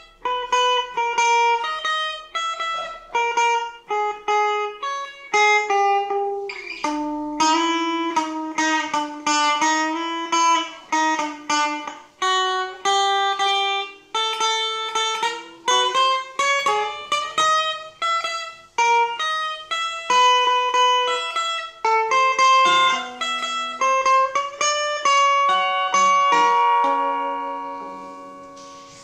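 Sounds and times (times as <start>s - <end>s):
clean electric guitar melody: 0.0s - 29.0s.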